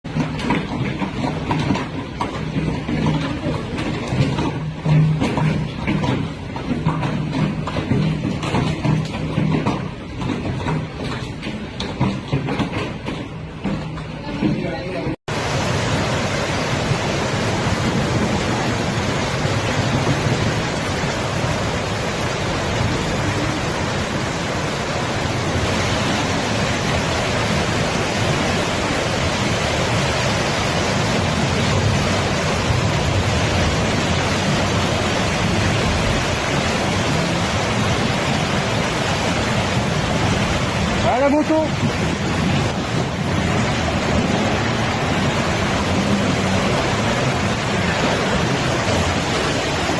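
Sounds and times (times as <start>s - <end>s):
torrential rain pouring: 0.0s - 49.9s.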